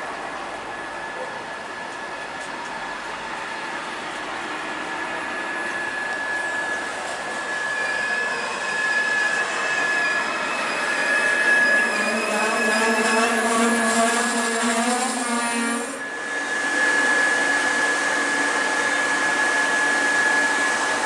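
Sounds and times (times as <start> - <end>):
high steady whine: 0.0 - 21.0
passing train rolling rush: 0.0 - 21.0.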